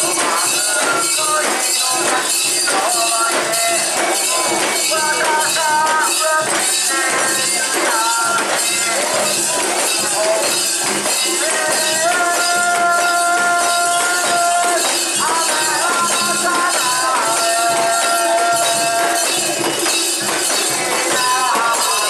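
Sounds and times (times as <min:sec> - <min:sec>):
metallic jingling and rattling: 0:00.0 - 0:22.0.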